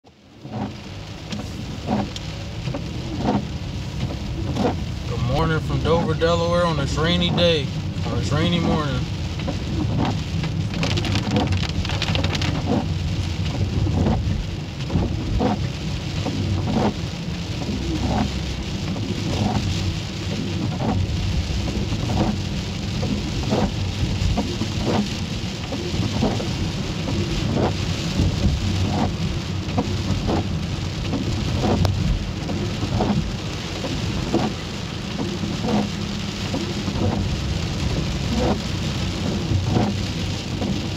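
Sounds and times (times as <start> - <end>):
rain hissing on car roof: 0.0 - 40.9
low rumble: 0.1 - 40.9
raindrops ticking: 0.3 - 40.9.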